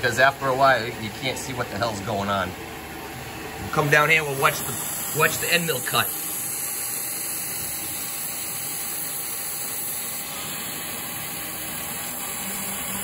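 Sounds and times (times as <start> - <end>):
milling machine hissing: 0.0 - 13.0.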